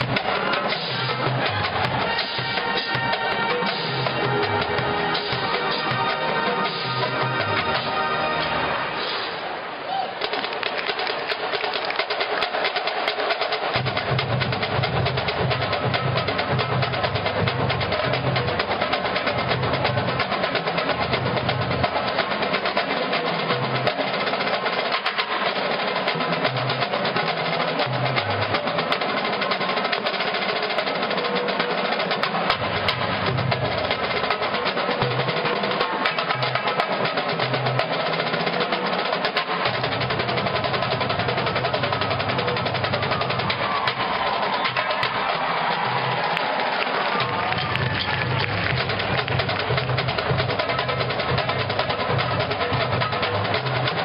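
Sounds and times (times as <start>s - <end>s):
snare drum rolls: 0.0s - 54.0s.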